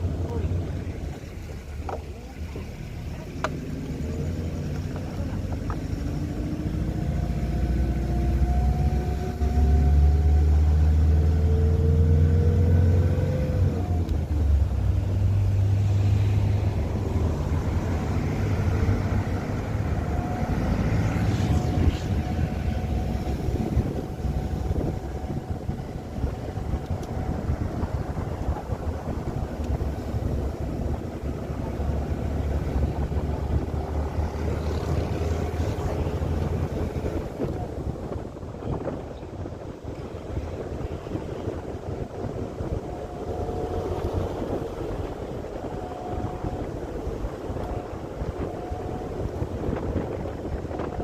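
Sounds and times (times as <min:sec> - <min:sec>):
road noise rumble: 0:00.0 - 0:51.0
vehicle engine accelerating: 0:00.0 - 0:51.0.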